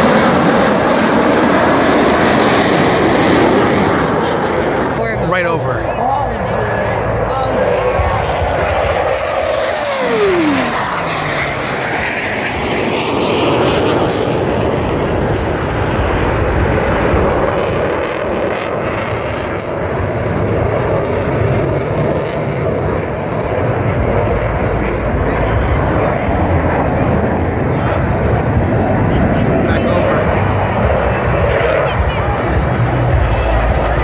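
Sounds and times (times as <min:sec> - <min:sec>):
jet flying past: 0:00.0 - 0:34.0
steady jet engine noise: 0:00.0 - 0:34.0.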